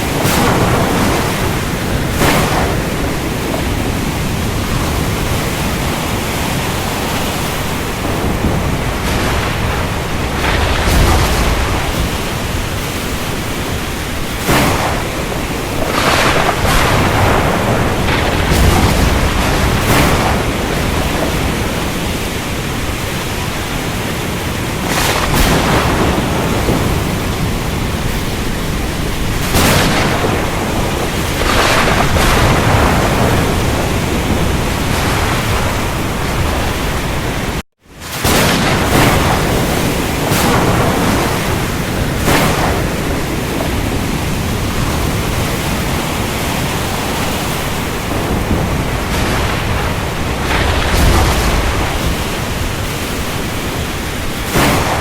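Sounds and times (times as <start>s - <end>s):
heavy rain: 0.0s - 55.0s
surf: 0.0s - 55.0s.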